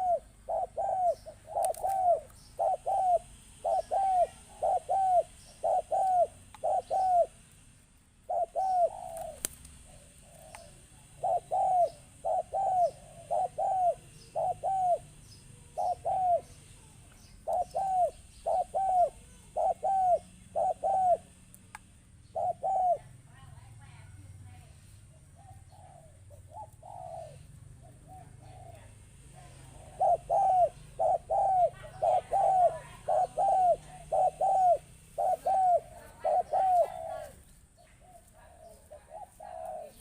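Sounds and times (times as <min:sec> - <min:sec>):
dove cooing: 0:00.0 - 0:07.4, 0:08.2 - 0:21.4, 0:22.2 - 0:24.4, 0:25.1 - 0:40.0.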